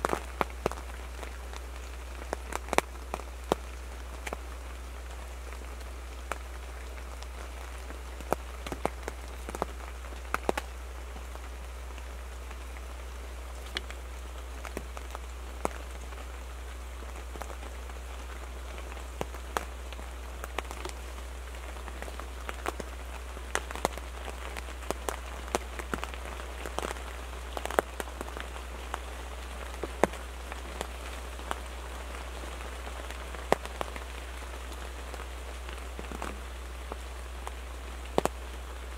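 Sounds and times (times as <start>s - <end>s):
rain hiss: 0.0s - 38.9s
raindrops ticking on a blind: 0.0s - 38.9s.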